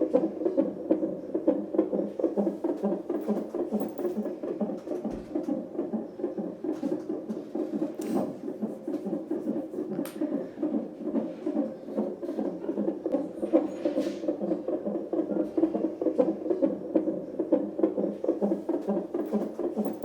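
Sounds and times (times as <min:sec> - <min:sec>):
fetal heartbeat pulsing: 0:00.0 - 0:20.0.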